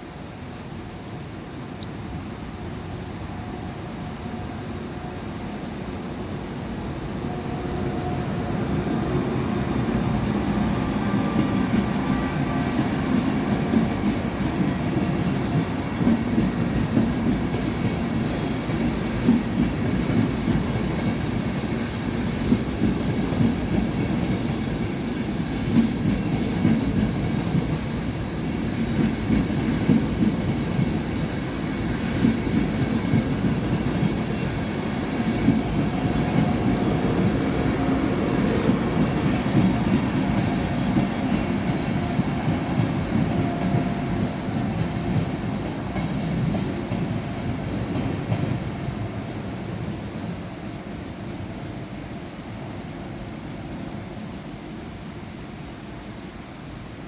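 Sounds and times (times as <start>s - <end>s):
train running past: 0.0s - 57.0s.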